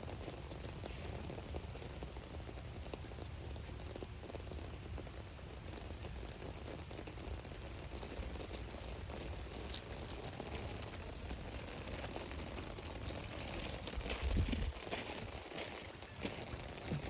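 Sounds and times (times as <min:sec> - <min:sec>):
light rain falling: 0:00.0 - 0:17.0
sharp drips and ticks: 0:00.0 - 0:17.0.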